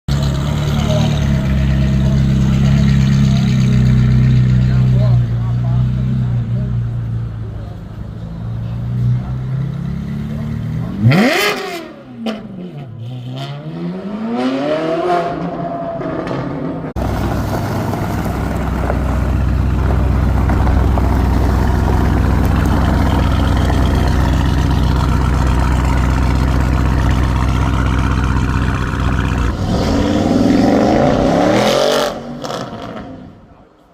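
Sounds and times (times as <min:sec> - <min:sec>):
car engines revving: 0:00.1 - 0:33.9.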